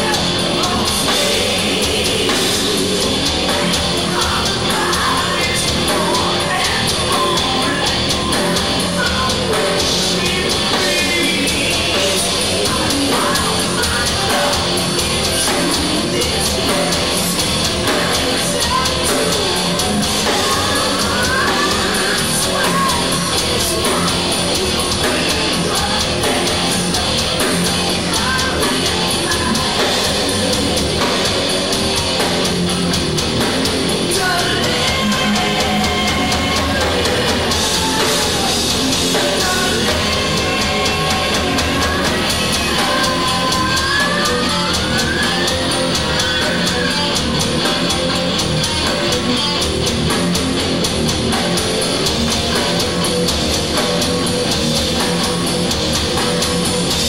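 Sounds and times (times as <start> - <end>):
heavy metal band playing live: 0.0 - 57.0
vocalist singing and yelling: 0.0 - 57.0.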